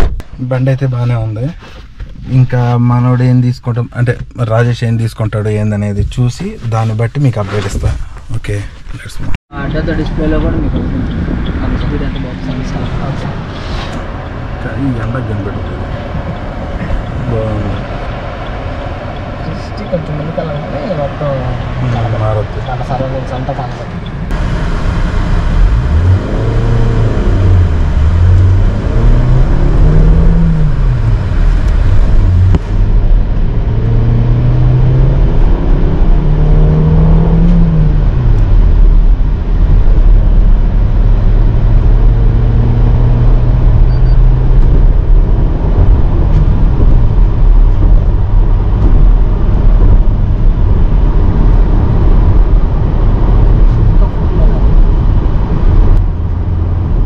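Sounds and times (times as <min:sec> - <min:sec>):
road and wind noise: 0:00.0 - 0:57.0
car engine accelerating: 0:09.6 - 0:57.0.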